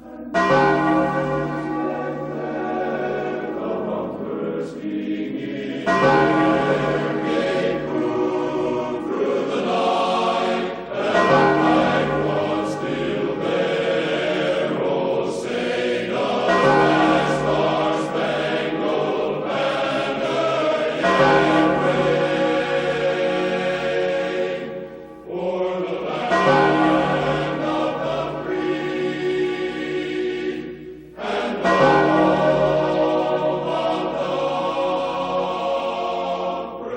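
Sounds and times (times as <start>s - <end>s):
bells: 0.0s - 36.9s
choir singing held chords: 0.0s - 36.9s.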